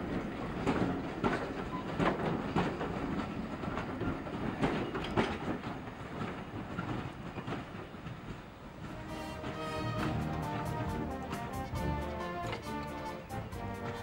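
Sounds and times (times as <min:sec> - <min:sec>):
train rumble: 0:00.0 - 0:14.0
train wheels clicking over rail joints: 0:00.0 - 0:14.0.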